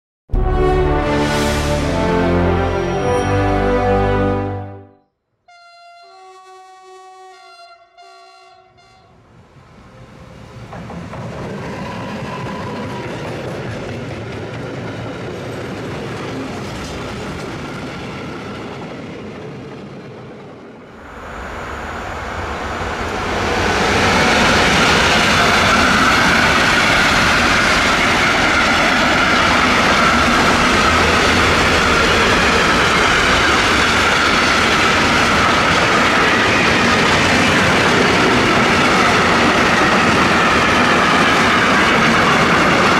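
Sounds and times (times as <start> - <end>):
freight train rumbling: 0.3 - 4.7, 8.6 - 42.9.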